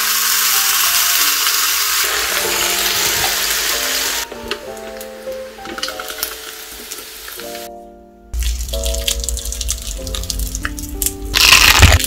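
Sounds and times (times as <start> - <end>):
dumplings sizzling: 0.0 - 7.7, 8.3 - 12.0.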